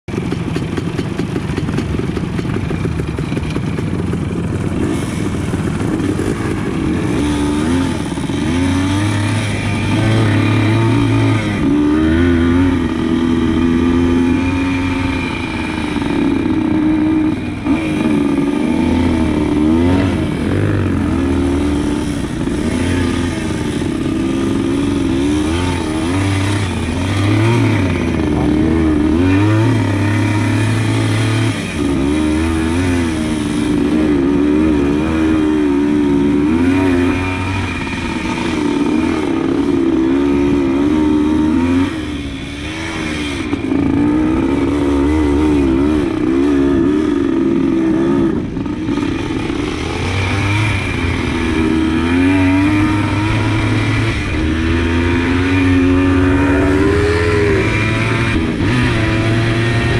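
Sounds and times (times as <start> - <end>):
dirt bike engine revving: 0.1 - 59.9.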